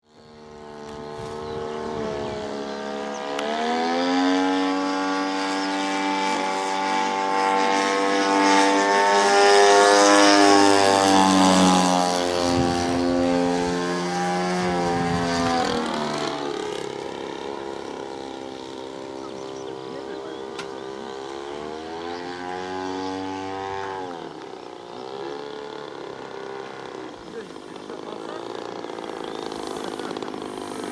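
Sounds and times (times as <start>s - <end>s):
model airplane engine buzzing: 0.0s - 30.9s.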